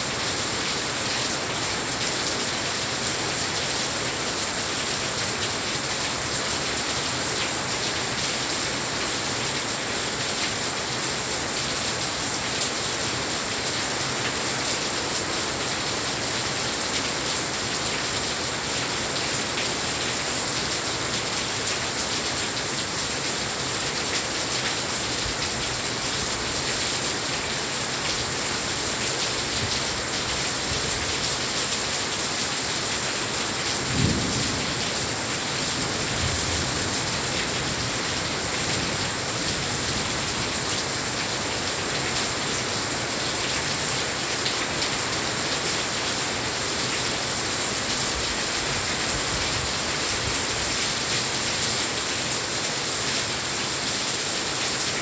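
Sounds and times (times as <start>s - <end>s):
heavy rain on glass railing: 0.0s - 55.0s.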